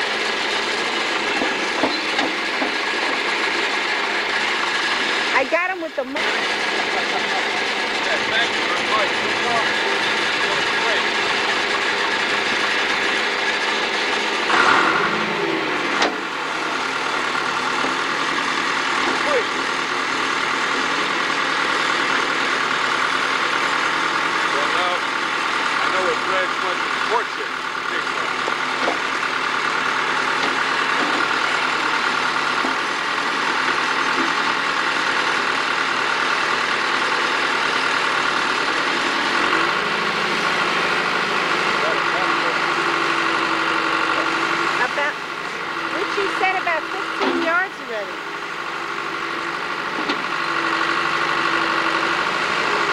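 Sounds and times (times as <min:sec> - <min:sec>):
backhoe engine running: 0:00.0 - 0:52.9.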